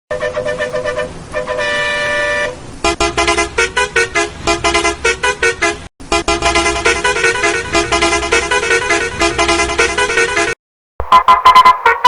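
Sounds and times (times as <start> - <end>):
bus horn toots: 0.1 - 12.0.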